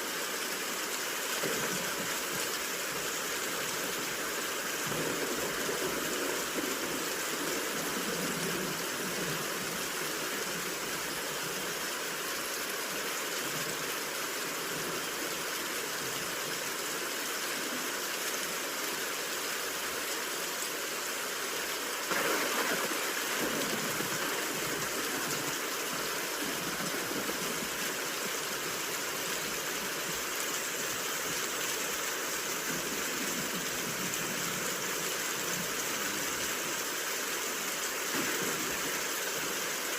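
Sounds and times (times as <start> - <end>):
steady rain hiss: 0.0 - 39.9
white noise: 0.0 - 39.9.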